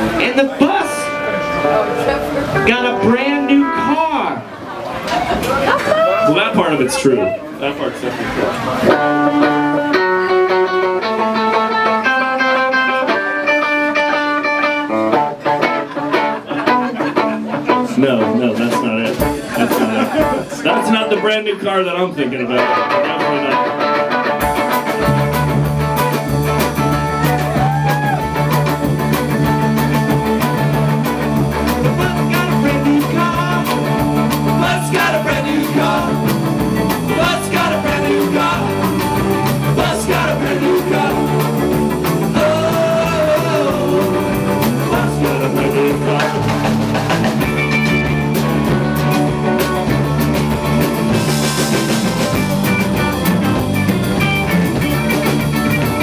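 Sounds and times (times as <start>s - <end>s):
bass guitar: 0.0s - 7.4s, 8.2s - 56.0s
electric guitars: 0.0s - 56.0s
drum kit: 8.6s - 21.9s, 22.5s - 56.0s.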